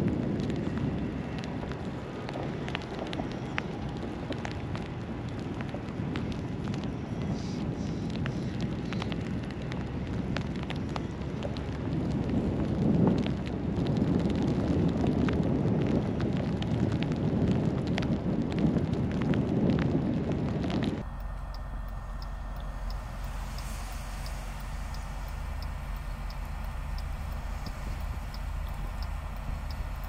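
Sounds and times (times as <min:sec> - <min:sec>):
blizzard wind buffeting microphone: 0:00.0 - 0:30.0
small clicks and crackles: 0:00.0 - 0:30.0.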